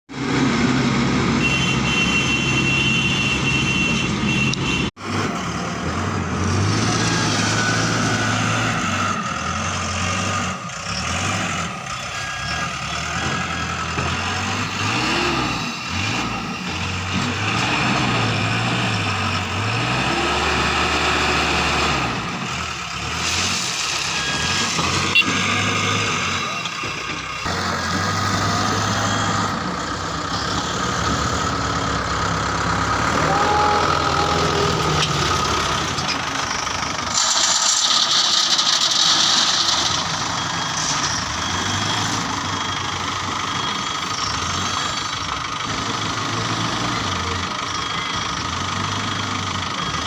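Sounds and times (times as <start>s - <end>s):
diesel engine working under load: 0.1s - 50.0s.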